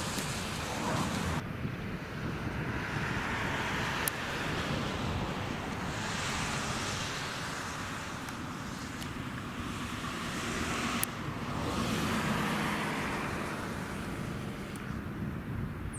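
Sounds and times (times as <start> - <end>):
jet engine roar: 0.0 - 14.8
wind on microphone: 0.0 - 15.9.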